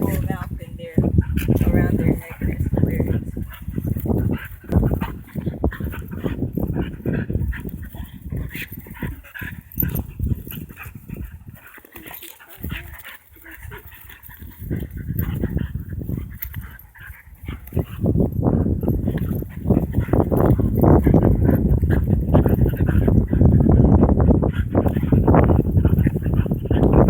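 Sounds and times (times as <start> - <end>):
dogs play-fighting growling: 0.0 - 27.0.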